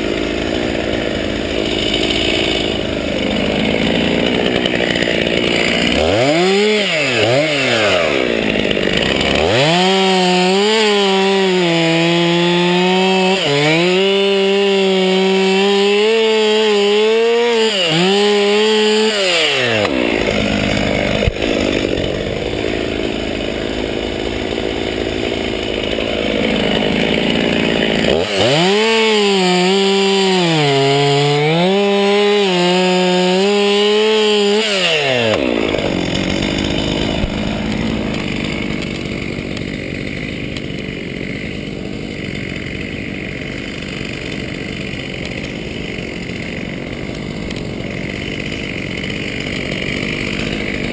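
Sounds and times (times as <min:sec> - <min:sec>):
chainsaw running at high revs: 0:00.0 - 0:50.9.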